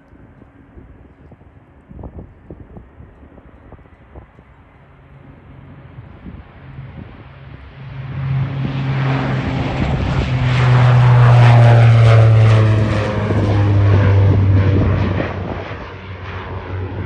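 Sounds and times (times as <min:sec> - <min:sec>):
turboprop airliner propeller drone: 0:00.0 - 0:17.0.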